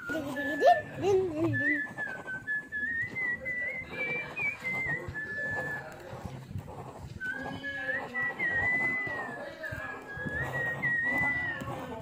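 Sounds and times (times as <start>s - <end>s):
person whistling a tune: 0.0s - 5.9s, 7.2s - 9.4s, 10.1s - 11.7s.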